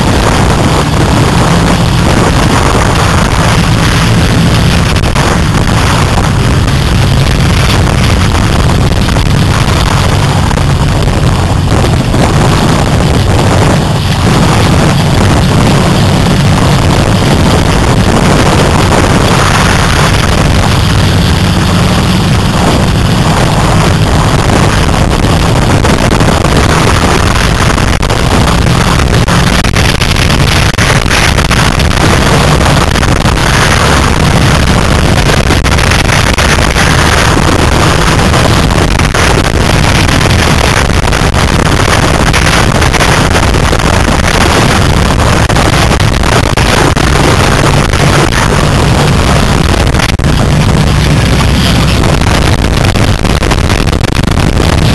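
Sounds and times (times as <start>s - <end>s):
car engine running: 0.0s - 54.9s
wind buffeting microphone: 0.0s - 54.9s.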